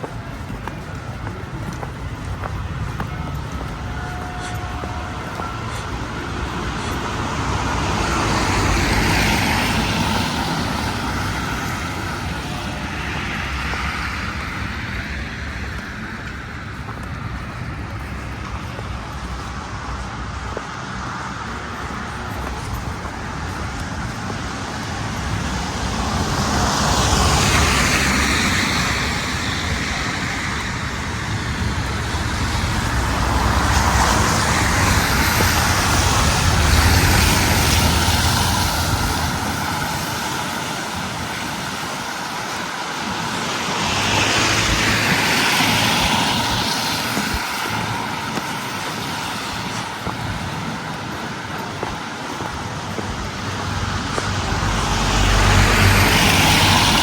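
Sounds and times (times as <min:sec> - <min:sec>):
road vehicles passing: 0:00.0 - 0:57.0.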